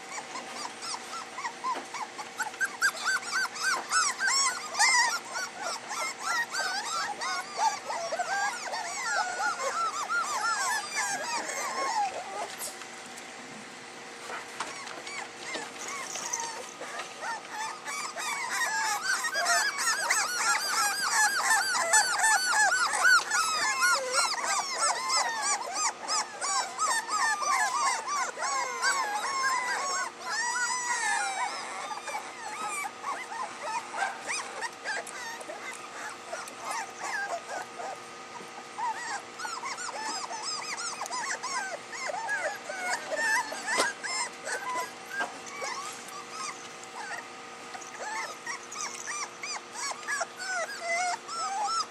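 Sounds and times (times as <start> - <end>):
puppies whining and yelping: 0.0 - 51.9.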